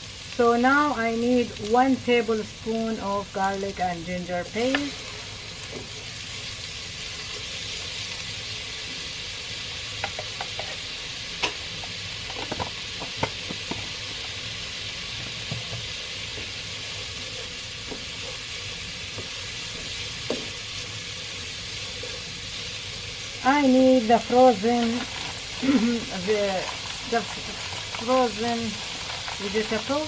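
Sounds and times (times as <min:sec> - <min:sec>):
onion sizzling in oil: 0:00.0 - 0:30.0.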